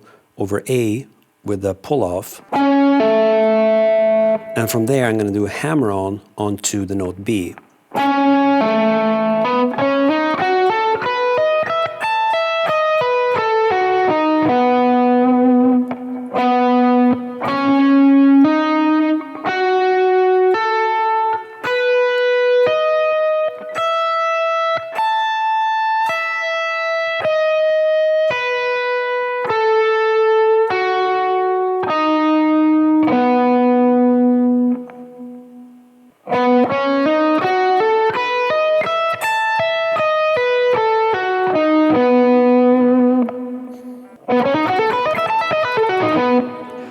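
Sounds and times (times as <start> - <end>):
electric guitar arpeggio: 2.5 - 4.8, 7.9 - 35.6, 36.2 - 46.9.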